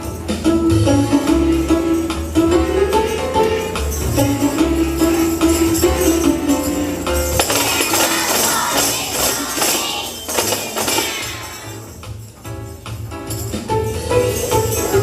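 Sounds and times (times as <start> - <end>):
pitched musical backing: 0.0 - 15.0
tambourines jingling: 0.0 - 15.0.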